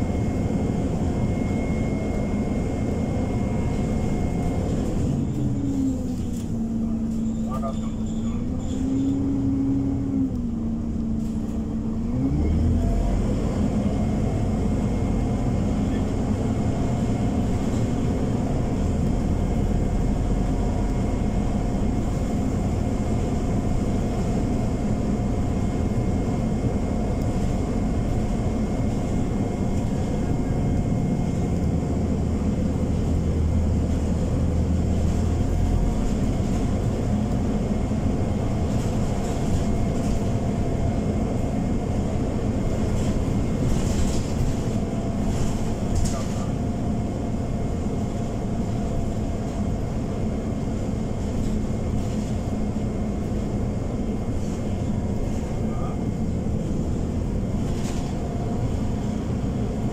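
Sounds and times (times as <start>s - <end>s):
bus engine rumble: 0.0s - 59.9s
continuous whine: 0.0s - 59.9s.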